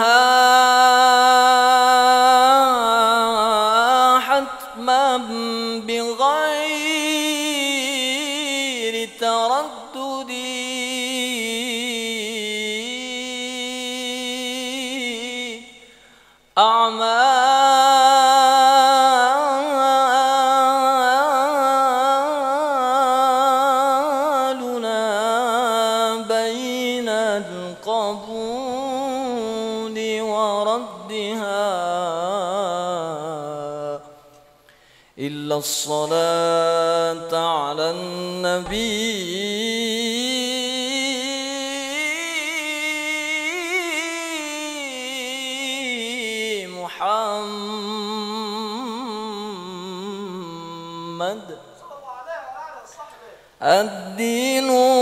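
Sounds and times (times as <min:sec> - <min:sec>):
man singing: 0:00.0 - 0:15.9, 0:16.6 - 0:34.3, 0:35.2 - 0:55.0.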